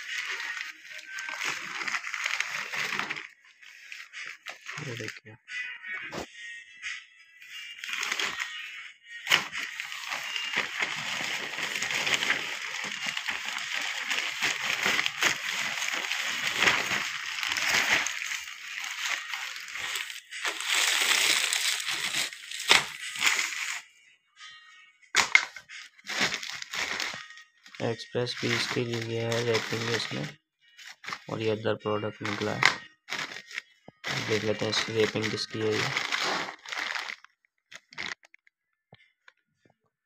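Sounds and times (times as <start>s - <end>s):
plastic bags crinkling: 0.0s - 5.1s, 7.6s - 23.8s, 25.2s - 38.4s.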